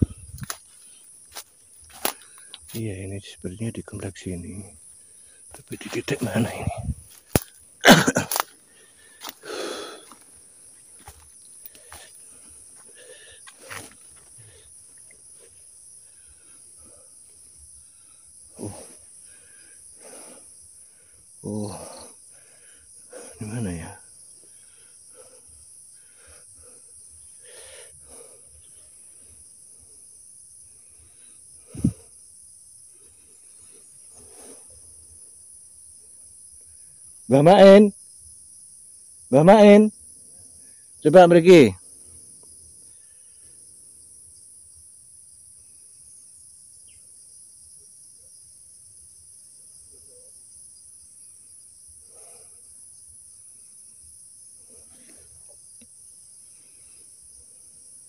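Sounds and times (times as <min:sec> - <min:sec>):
insects buzzing: 0:00.0 - 0:58.0.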